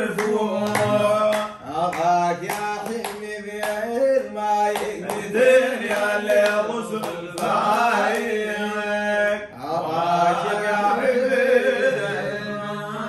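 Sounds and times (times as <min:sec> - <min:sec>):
men chanting unaccompanied: 0:00.0 - 0:13.0.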